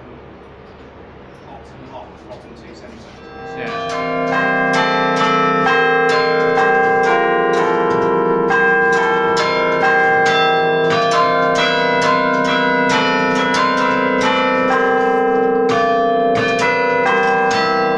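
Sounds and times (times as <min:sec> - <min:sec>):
carillon bells playing tune: 0:03.2 - 0:17.9.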